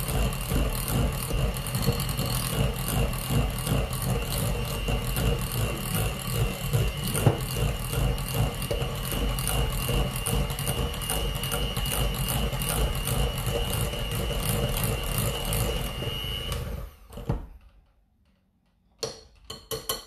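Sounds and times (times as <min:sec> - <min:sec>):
electric hand mixer whining: 0:00.0 - 0:17.5.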